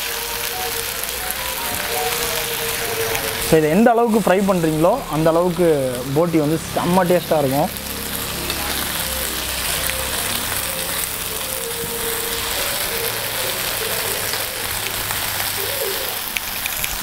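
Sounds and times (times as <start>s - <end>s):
meat sizzling on griddle: 0.0s - 17.0s.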